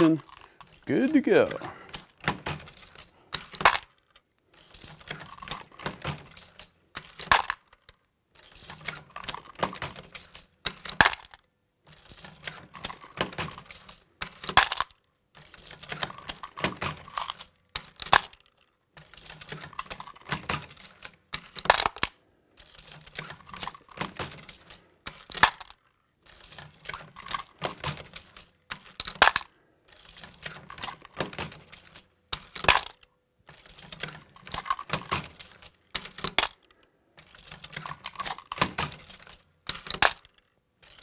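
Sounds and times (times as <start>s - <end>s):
reloading press rattling clicks: 0.0s - 41.0s.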